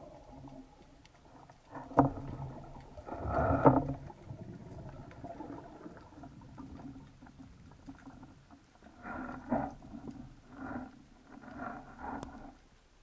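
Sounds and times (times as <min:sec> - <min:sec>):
faint ticks: 0:00.0 - 0:13.0
muffled water surges: 0:00.0 - 0:13.0.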